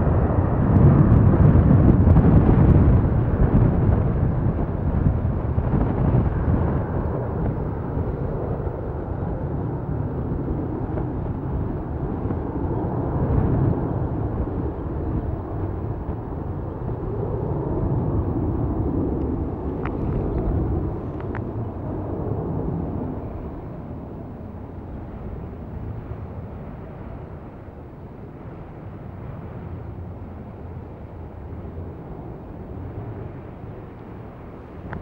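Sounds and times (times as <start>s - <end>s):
jet engines at takeoff: 0.0s - 35.0s.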